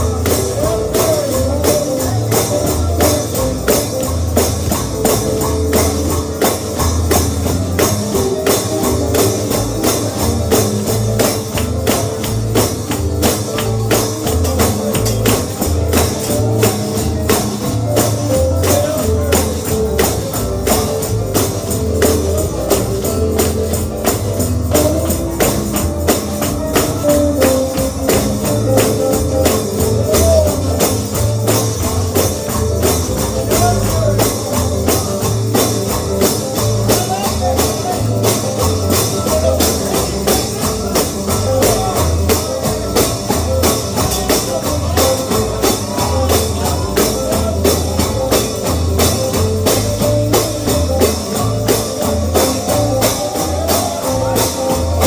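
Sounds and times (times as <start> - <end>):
instrumental gospel music: 0.0 - 55.0
pulsing bass line: 0.0 - 55.0
tambourine beat: 0.0 - 55.0.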